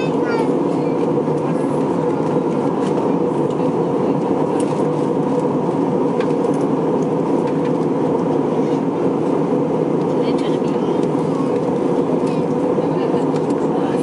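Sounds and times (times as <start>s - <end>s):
airliner cabin engine roar: 0.0s - 14.0s.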